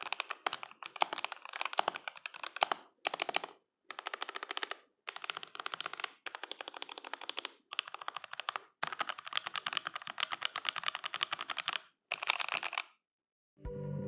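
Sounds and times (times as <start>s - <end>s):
fast typing on mechanical keyboard: 0.0s - 13.0s.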